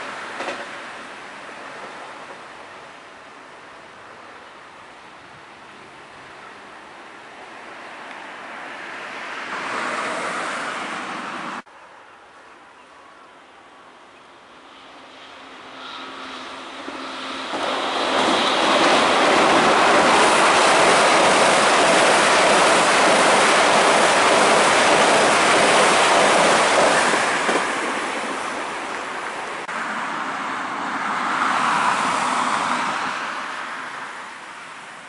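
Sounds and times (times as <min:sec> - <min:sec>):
approaching electric train: 0:00.0 - 0:11.7, 0:14.4 - 0:35.0
train crossing steel bridge: 0:00.0 - 0:35.0.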